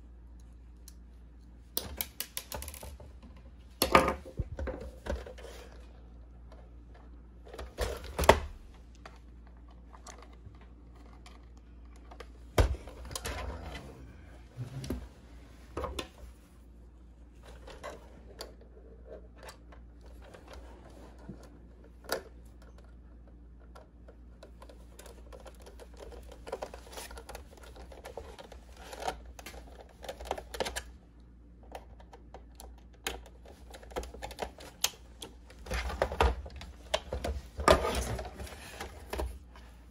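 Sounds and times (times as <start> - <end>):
plastic toy being handled: 1.8 - 13.8, 17.3 - 31.0, 31.6 - 39.9.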